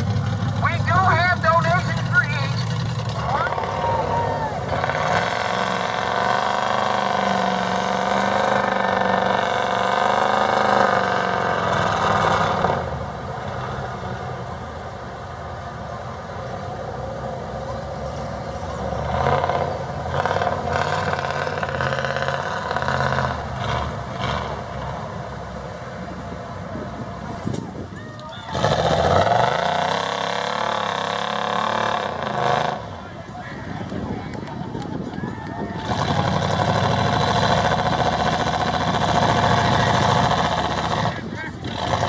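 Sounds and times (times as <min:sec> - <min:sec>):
truck engine revving: 0:00.0 - 0:42.0.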